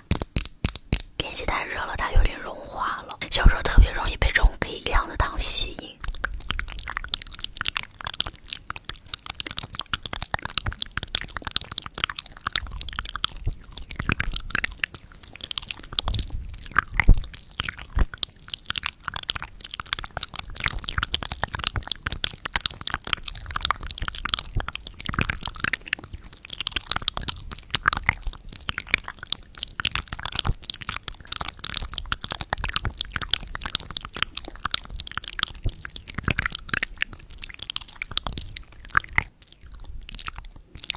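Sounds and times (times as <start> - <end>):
chewing and crunching candy: 0.0 - 40.9.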